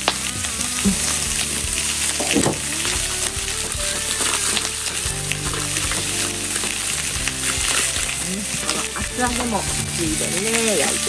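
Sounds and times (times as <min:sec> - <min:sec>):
background music: 0:00.0 - 0:11.0
meat and vegetables sizzling: 0:00.0 - 0:11.0
small pops and crackles: 0:00.0 - 0:11.0.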